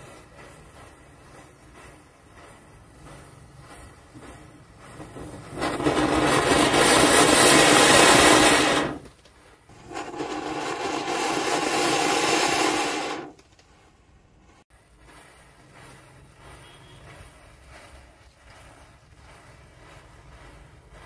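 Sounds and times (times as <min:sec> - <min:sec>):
firecrackers hissing sparks: 0:00.0 - 0:14.0, 0:14.7 - 0:21.0.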